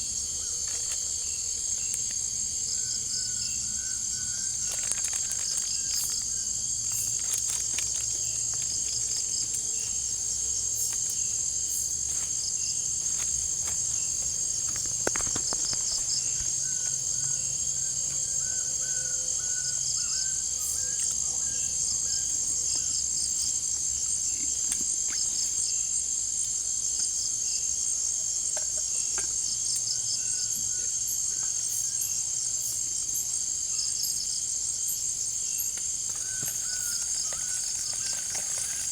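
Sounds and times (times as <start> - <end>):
insects calling in pulses: 0.0 - 38.9
insects high-pitched trill: 0.0 - 38.9.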